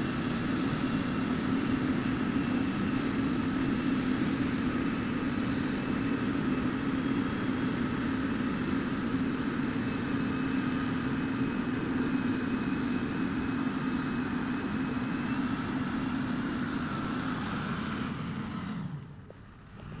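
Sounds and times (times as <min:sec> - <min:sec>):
heavy diesel engine drone: 0:00.0 - 0:20.0
high engine whine: 0:00.0 - 0:20.0.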